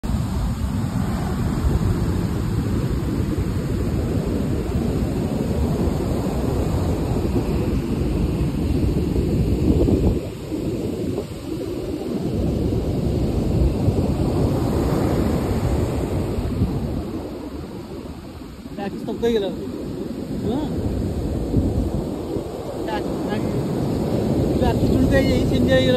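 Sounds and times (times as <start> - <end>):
surf washing on beach: 0.0 - 25.9
wind rumbling on microphone: 0.0 - 25.9.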